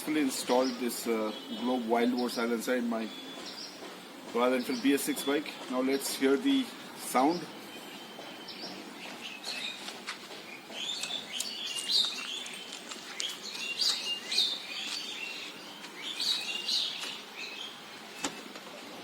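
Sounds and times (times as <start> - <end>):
small birds chirping: 0.0 - 18.6.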